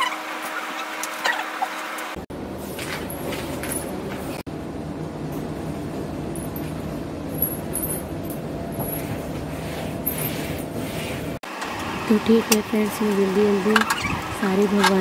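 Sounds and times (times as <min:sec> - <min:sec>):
air conditioner humming: 0:01.7 - 0:15.0.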